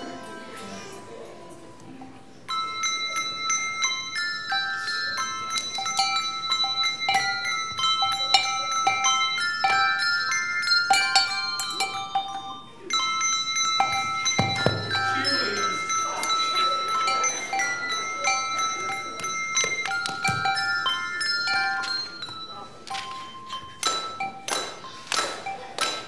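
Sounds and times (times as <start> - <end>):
handbell choir playing: 0.0 - 26.0.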